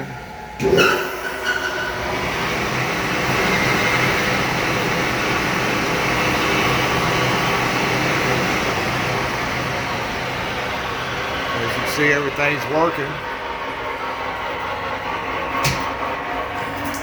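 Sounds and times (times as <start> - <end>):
oven fans rushing air: 0.0 - 17.0.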